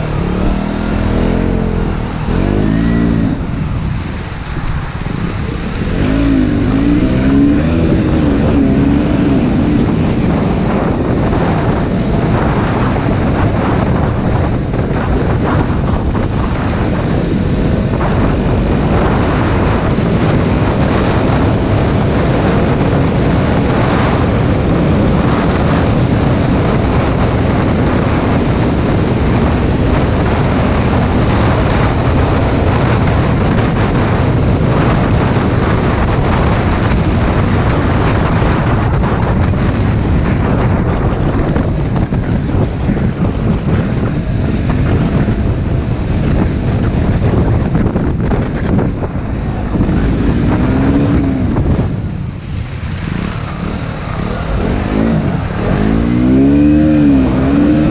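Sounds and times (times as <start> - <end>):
motorcycle engine cruising: 0.0 - 57.9
wind buffeting microphone: 0.0 - 57.9.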